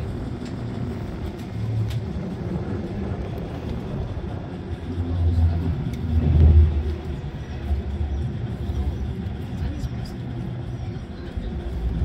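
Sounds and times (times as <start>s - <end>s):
cable car cabin rumble: 0.0s - 12.0s.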